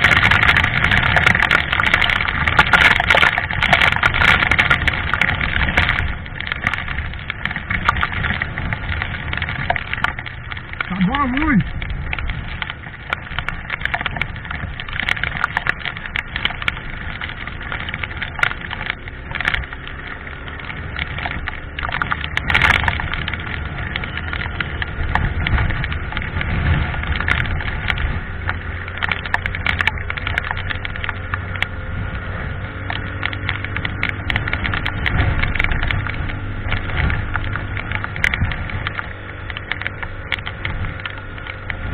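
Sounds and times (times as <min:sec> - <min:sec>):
motorcycle engine hum: 0:00.0 - 0:41.9.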